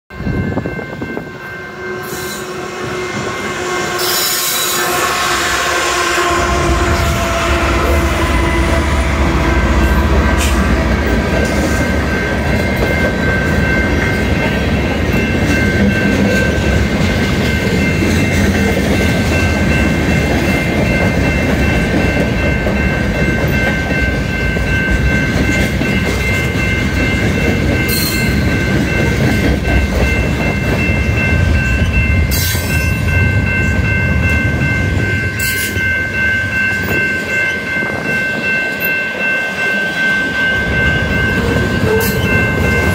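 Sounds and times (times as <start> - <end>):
diesel locomotive passing: 0.1 - 42.9
steady high-pitched tone: 0.1 - 42.9.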